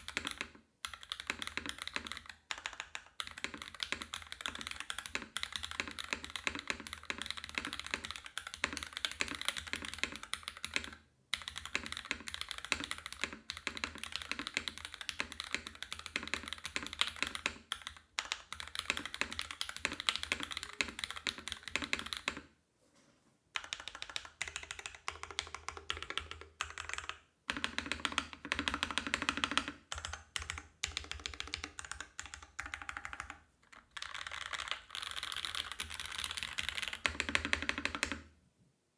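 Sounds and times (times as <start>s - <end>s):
mechanical keyboard typing: 0.0s - 22.5s, 23.6s - 38.3s.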